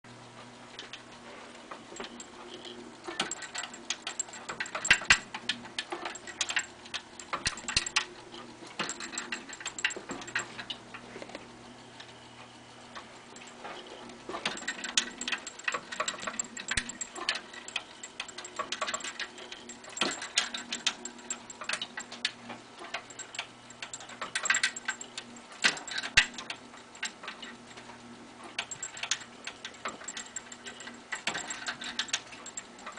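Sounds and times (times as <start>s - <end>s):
low electrical hum: 0.1s - 32.9s
mechanism ticking and clicking: 0.1s - 32.9s.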